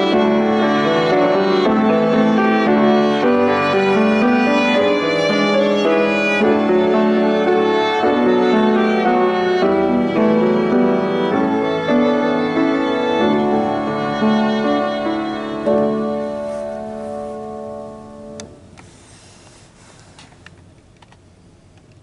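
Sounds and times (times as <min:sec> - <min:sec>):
violin with vibrato: 0:00.0 - 0:18.4
piano chords: 0:00.0 - 0:18.7.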